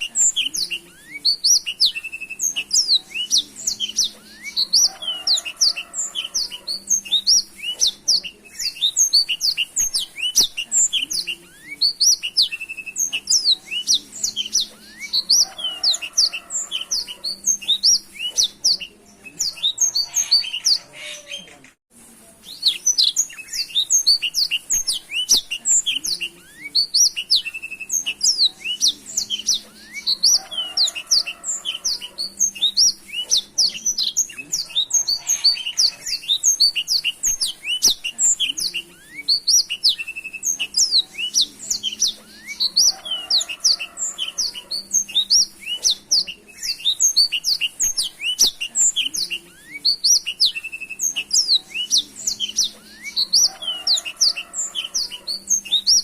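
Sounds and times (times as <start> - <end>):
canary singing chirps and trills: 0.0 - 56.0
lower buzzy bird phrase: 0.0 - 56.0.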